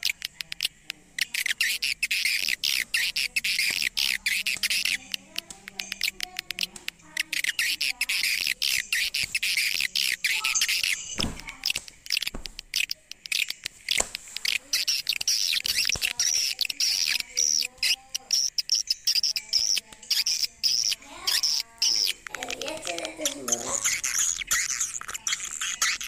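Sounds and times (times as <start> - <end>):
swiftlets chirping: 0.0 - 26.0.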